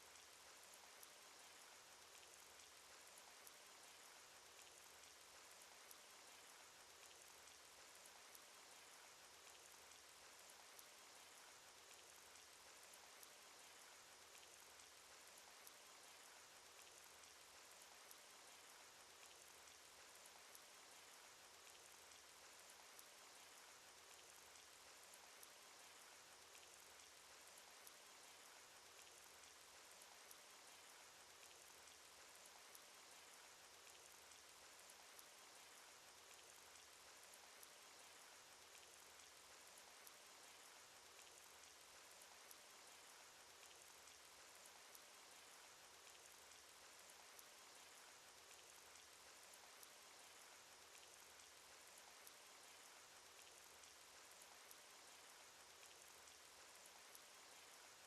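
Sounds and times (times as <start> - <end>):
raindrop ticks: 0.0 - 58.0.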